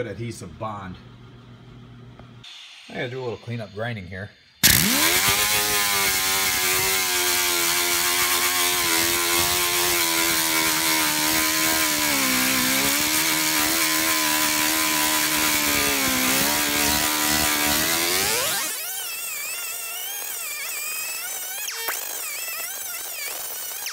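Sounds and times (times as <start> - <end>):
air grinder whining: 2.5 - 23.9.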